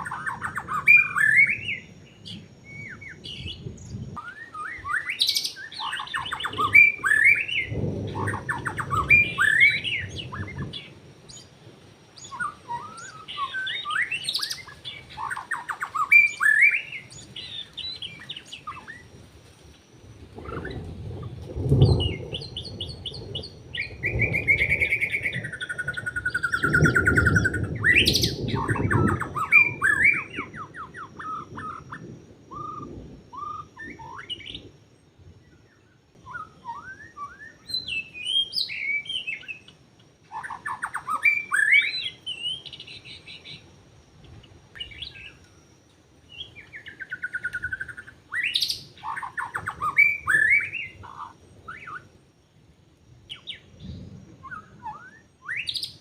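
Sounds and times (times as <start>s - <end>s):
bird singing whistled phrases: 0.0s - 11.5s, 12.2s - 19.1s, 21.8s - 34.6s, 36.2s - 43.6s, 46.3s - 52.1s, 54.4s - 56.0s.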